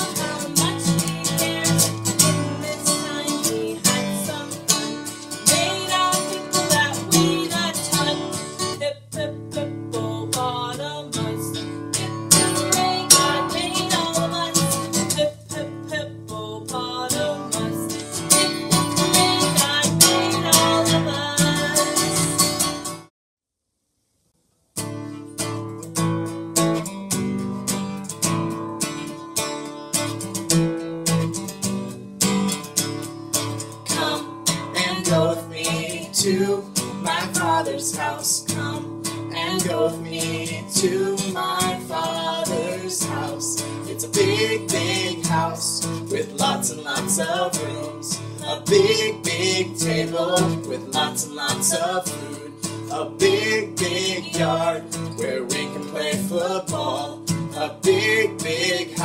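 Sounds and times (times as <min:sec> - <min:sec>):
strummed acoustic guitar: 0:00.0 - 0:23.1, 0:24.8 - 0:59.0.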